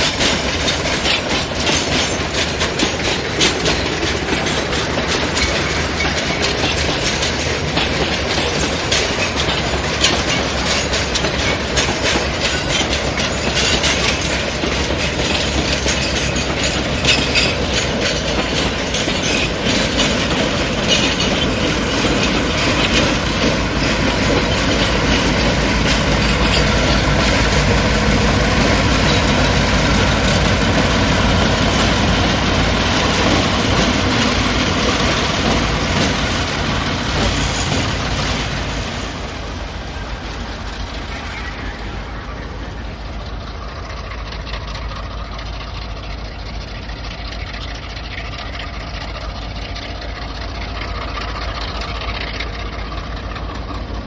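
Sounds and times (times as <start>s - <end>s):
diesel locomotive engine rumble: 0.0s - 54.0s
train wheel clatter: 0.0s - 54.0s.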